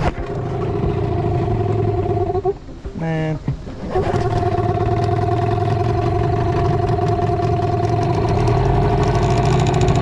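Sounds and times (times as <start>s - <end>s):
outboard motor running: 0.0s - 2.5s, 3.8s - 10.0s.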